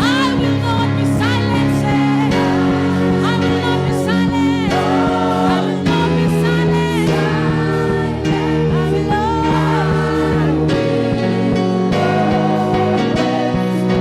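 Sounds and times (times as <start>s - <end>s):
gospel singing with live band: 0.0s - 14.0s.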